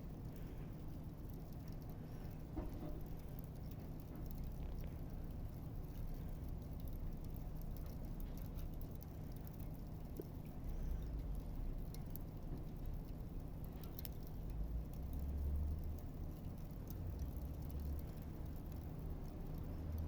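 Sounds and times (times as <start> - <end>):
campfire crackling and popping: 0.1 - 20.0.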